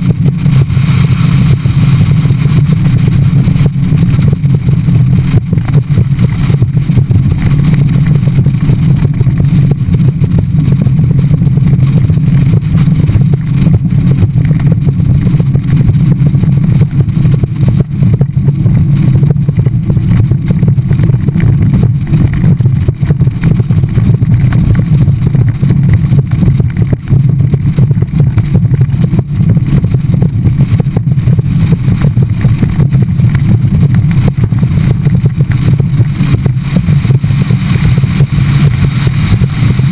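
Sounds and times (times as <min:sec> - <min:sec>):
boat engine and hull rumble: 0:00.0 - 0:39.9
wind rushing over microphone: 0:00.0 - 0:39.9.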